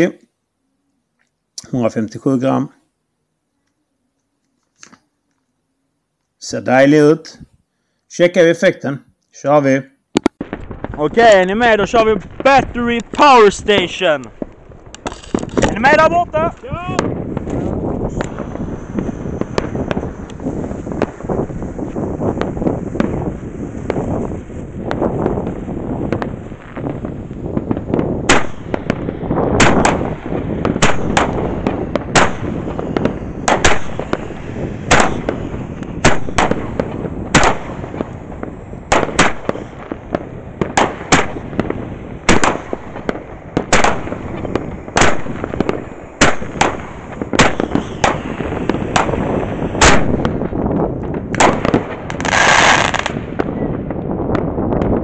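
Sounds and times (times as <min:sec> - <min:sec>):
fireworks sharp bangs: 0:10.1 - 0:55.0.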